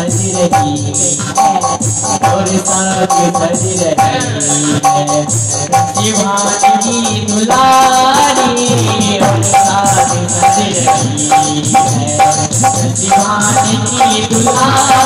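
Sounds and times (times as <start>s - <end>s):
sustained melody line: 0.0s - 15.0s
tabla playing rhythm: 0.0s - 15.0s.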